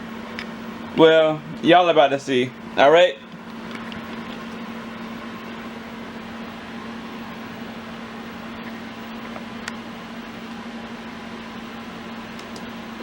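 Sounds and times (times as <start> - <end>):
steady appliance hum: 0.0 - 13.0.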